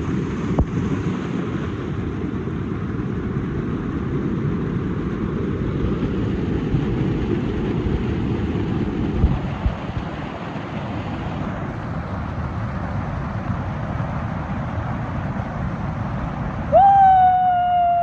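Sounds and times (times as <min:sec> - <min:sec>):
steady rumbling noise: 0:00.0 - 0:18.0.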